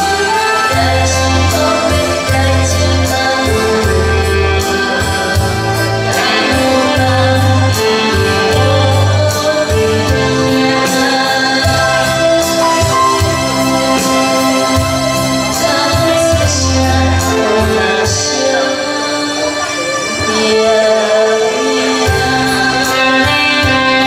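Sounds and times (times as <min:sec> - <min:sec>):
saxophone: 0:00.0 - 0:24.0
woman singing through microphone: 0:00.0 - 0:24.0.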